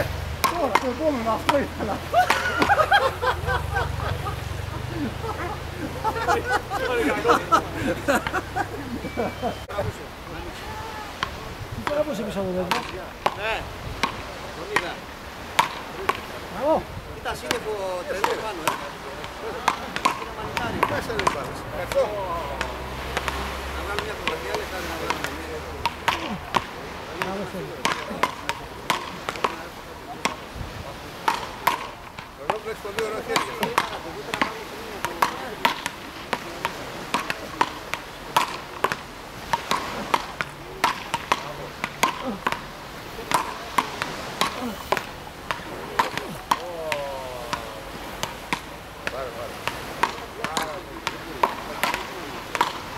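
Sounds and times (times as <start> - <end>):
wooden rackets hitting a ball: 0.0 - 8.9, 11.2 - 30.5, 31.1 - 52.9.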